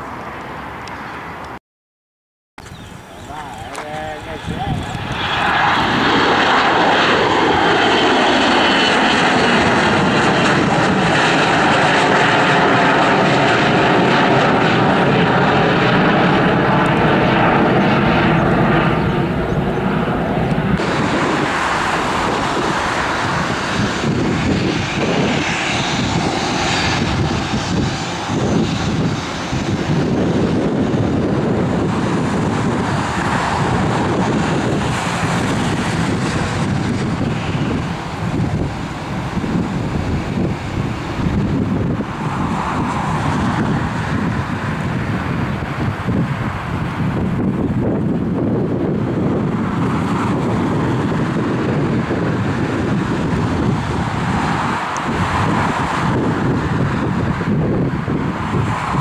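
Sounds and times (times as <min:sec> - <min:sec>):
jet engine roar with falling whine: 0:00.0 - 0:01.6, 0:02.6 - 0:59.0
rough unsteady jet rumble: 0:02.6 - 0:59.0.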